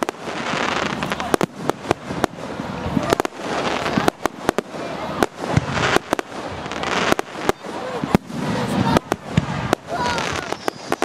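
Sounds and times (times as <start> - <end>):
crackling hiss: 0.0 - 11.0
fireworks bangs and cracks: 0.0 - 11.0.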